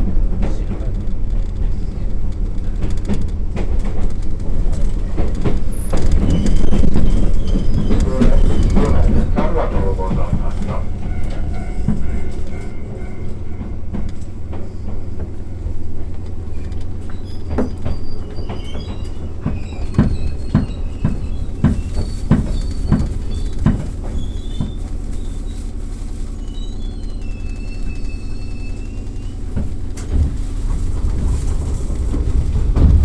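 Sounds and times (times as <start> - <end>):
wheels clacking over rail joints: 0.0 - 25.8, 27.0 - 33.0
train rumbling: 0.0 - 33.0.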